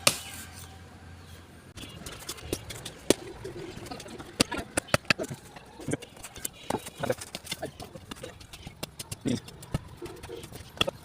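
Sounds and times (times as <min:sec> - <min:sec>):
low hum: 0:00.5 - 0:11.0.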